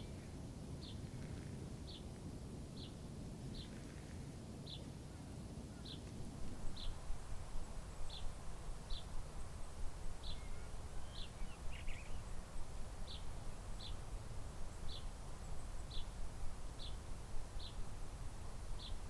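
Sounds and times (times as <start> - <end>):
low wind rumble: 0.0 - 19.0.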